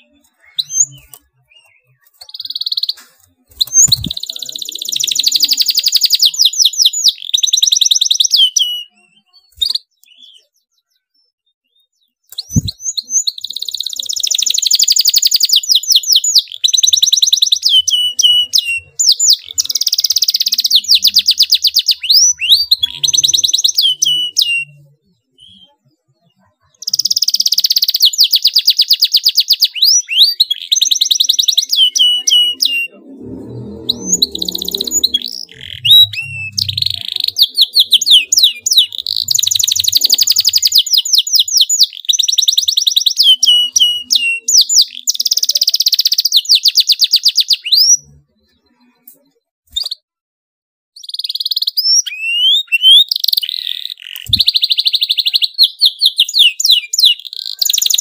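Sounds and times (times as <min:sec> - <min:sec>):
canary singing: 0:00.0 - 0:48.6, 0:51.0 - 0:58.0.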